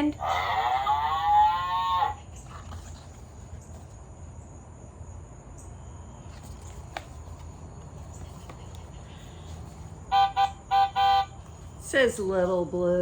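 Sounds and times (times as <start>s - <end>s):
crickets chirping: 0.0s - 13.0s
low steady hum: 0.0s - 13.0s.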